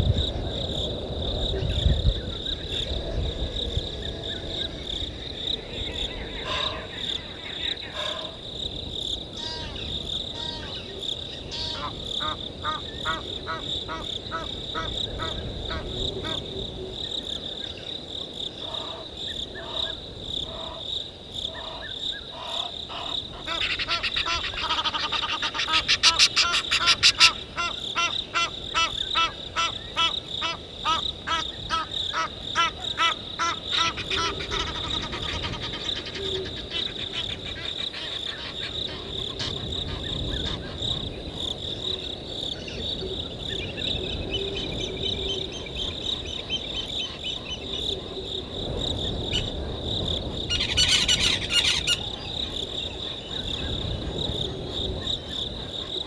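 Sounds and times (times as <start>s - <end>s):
crickets and insects chorus: 0.0s - 56.0s.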